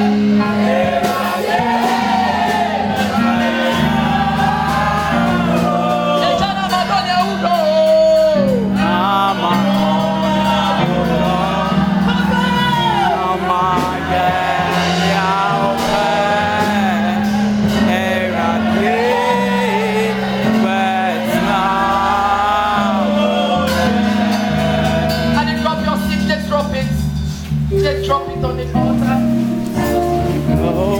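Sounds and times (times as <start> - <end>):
voices singing gospel: 0.0 - 27.5, 28.6 - 30.9.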